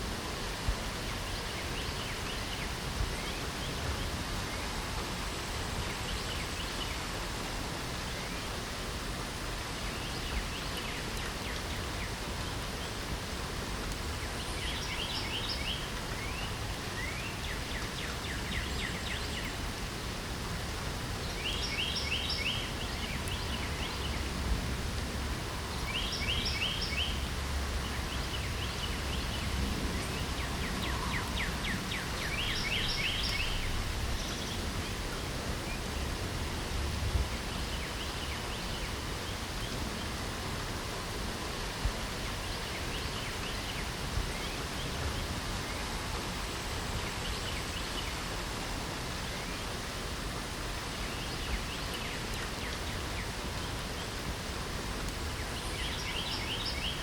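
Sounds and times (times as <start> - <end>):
rain hiss: 0.0 - 57.0
songbird singing: 0.1 - 7.3, 7.9 - 48.4, 49.0 - 57.0.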